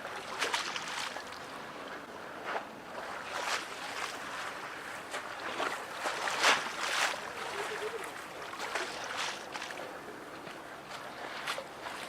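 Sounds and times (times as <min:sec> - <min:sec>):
waves lapping and splashing: 0:00.0 - 0:12.0.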